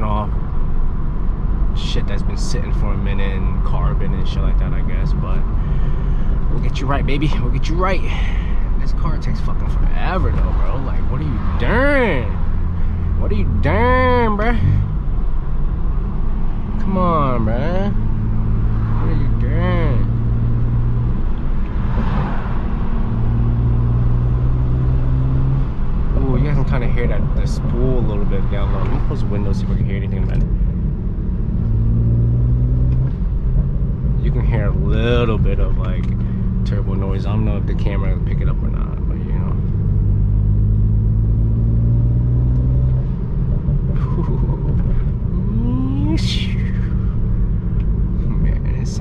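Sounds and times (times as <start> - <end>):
car engine while driving: 0.0 - 49.0.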